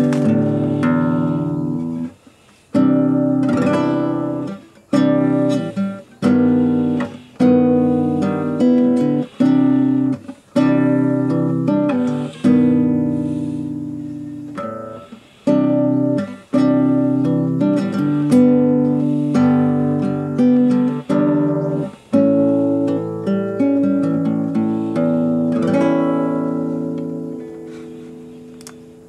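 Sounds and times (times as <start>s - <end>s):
acoustic guitar strummed chords: 0.0s - 29.0s.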